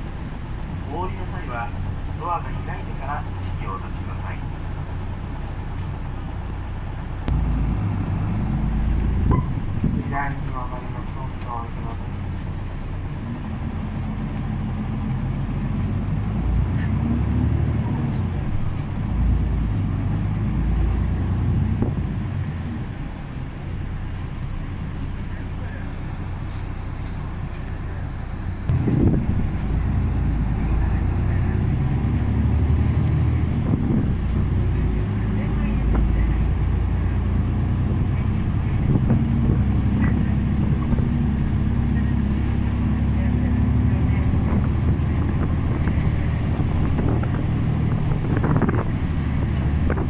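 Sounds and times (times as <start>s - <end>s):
bus engine and road rumble: 0.0s - 50.0s.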